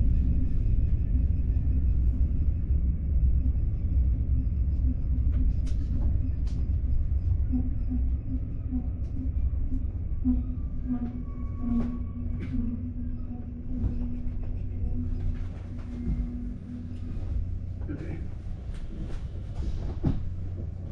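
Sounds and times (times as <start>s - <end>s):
train rumble inside carriage: 0.0s - 20.9s.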